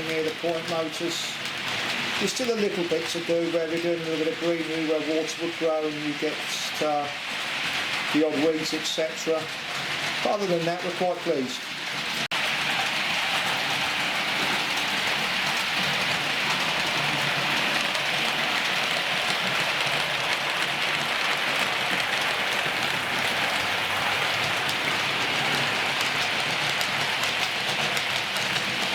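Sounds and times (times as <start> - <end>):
steady hiss: 0.0 - 28.9.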